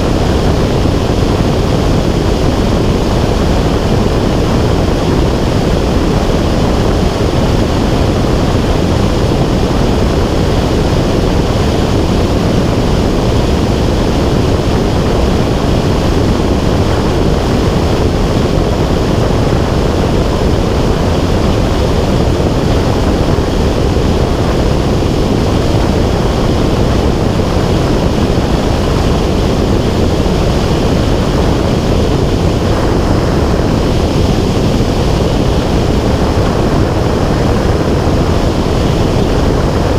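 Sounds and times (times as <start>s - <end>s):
aircraft engine drone: 0.0s - 39.9s
airflow rushing on microphone: 0.0s - 39.9s.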